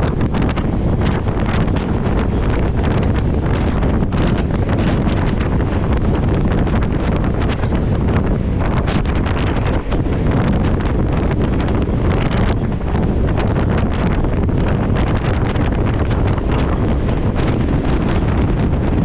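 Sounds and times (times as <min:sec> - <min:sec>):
train running noise: 0:00.0 - 0:19.0
wind rushing over microphone: 0:00.0 - 0:19.0.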